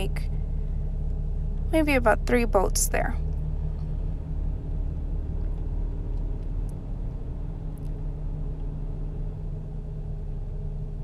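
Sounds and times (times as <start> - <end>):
faint constant hum: 0.0 - 11.0
low background rumble: 0.0 - 11.0.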